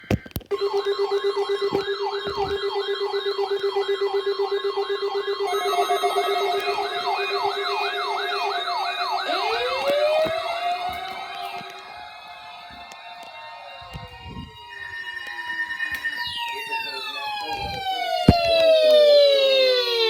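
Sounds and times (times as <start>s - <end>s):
electronic siren fast yelp: 0.5s - 20.0s
rising siren wail: 0.5s - 20.0s
steady low siren tone: 0.5s - 20.0s.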